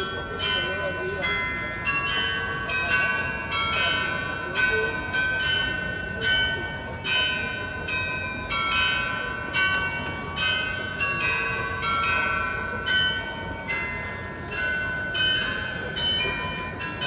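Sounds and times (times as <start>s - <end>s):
glockenspiel bells playing a tune: 0.0s - 17.0s.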